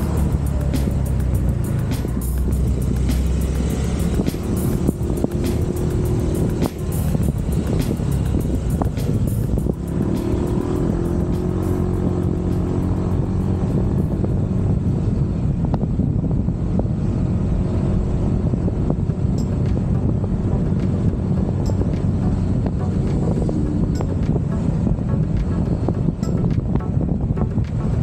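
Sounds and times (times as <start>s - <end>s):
scooter engine cruising: 0.0s - 28.0s
wind rumble on microphone: 0.0s - 28.0s.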